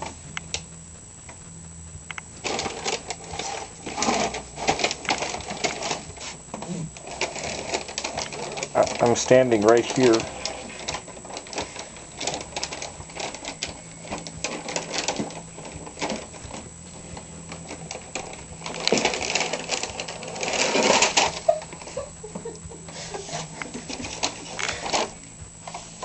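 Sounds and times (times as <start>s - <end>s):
plastic snack bag crinkling: 2.4s - 25.3s.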